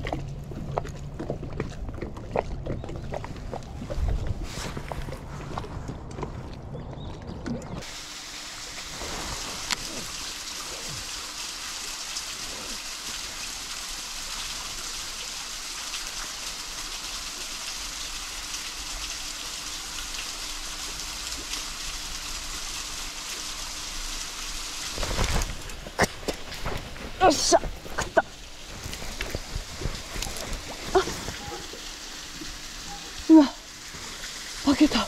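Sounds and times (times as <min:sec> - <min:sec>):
water trickling into a lake: 0:00.0 - 0:35.0.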